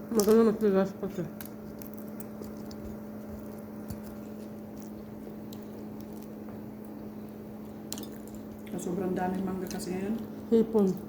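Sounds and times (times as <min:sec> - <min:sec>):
steady low hum: 0:00.0 - 0:11.0
soft chewing: 0:01.3 - 0:11.0.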